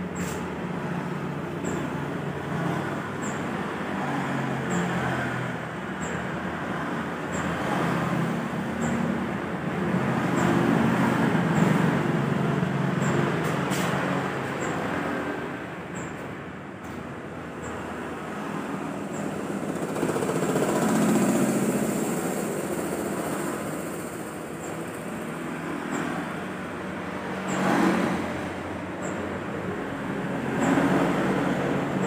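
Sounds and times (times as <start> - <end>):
motorcycle engines going by: 0.0 - 32.0
street traffic passing: 0.0 - 32.0.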